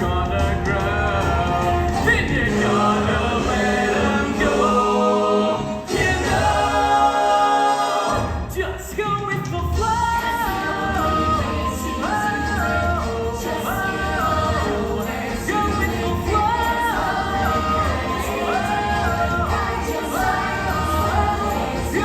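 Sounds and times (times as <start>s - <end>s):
voices singing together: 0.0s - 22.0s.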